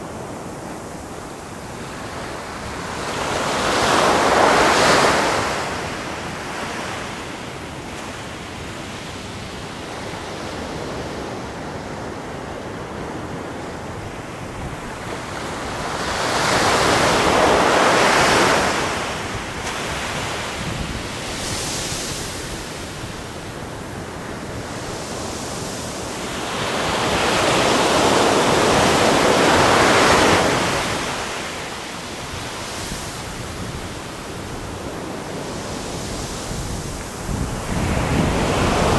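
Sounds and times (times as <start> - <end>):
wave crashing on beach: 0.0 - 8.0, 14.2 - 38.9
steady hiss of surf: 0.0 - 38.9.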